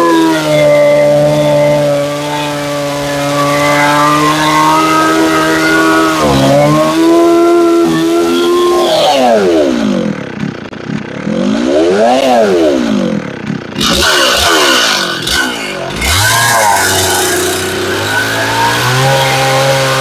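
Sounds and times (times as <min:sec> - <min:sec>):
chainsaw cutting log: 0:00.0 - 0:20.0
chainsaw revving: 0:00.0 - 0:20.0.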